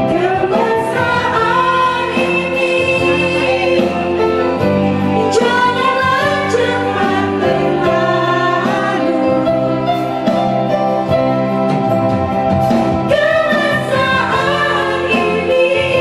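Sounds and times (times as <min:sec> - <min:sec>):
woman singing slow song: 0:00.0 - 0:10.2, 0:13.1 - 0:16.0
amplified backing music: 0:00.0 - 0:16.0.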